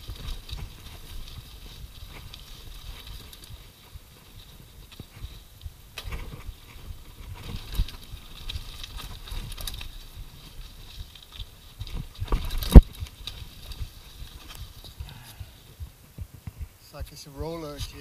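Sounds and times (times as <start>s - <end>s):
mountain bike rattling over rocks: 0.0s - 18.0s.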